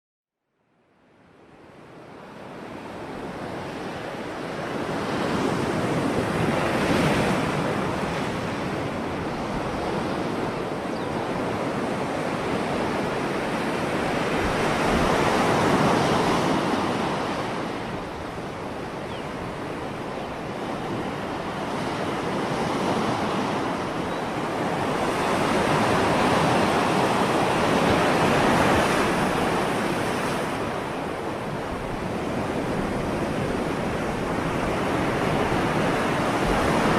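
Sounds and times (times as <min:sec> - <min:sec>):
ocean waves breaking: 0:02.2 - 0:36.9.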